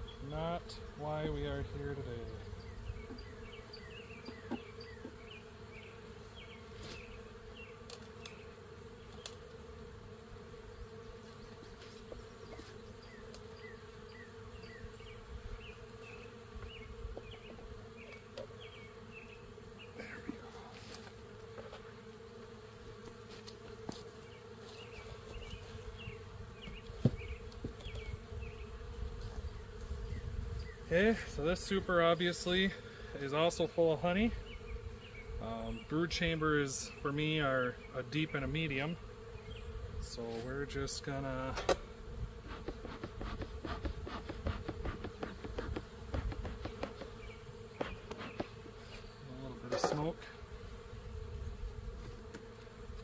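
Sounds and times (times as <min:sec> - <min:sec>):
honeybees buzzing: 0:00.0 - 0:53.0.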